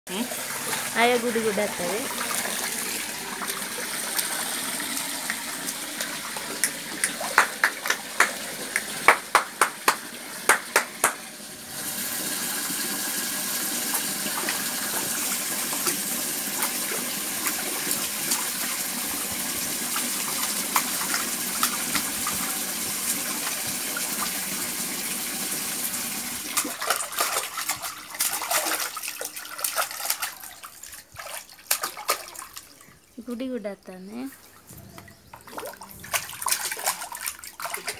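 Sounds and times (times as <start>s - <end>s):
child splashing water in tub: 0.1s - 33.4s, 34.3s - 37.9s
water running from hose: 0.1s - 34.3s, 35.3s - 37.9s.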